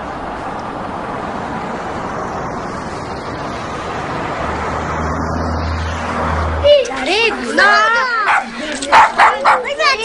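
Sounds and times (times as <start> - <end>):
vehicle driving rushing noise: 0.0 - 9.2.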